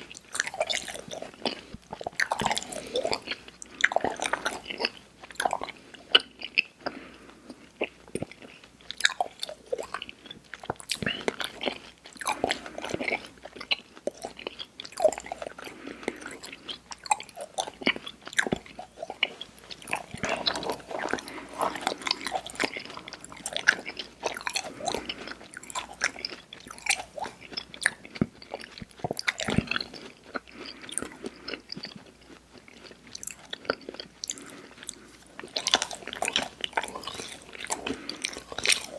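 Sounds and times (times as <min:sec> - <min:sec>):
mouth chewing candy: 0:00.0 - 0:38.9.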